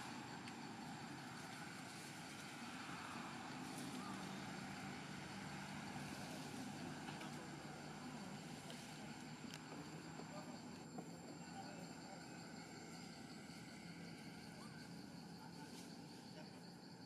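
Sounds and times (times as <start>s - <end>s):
thin steady high tone: 0.0s - 16.8s.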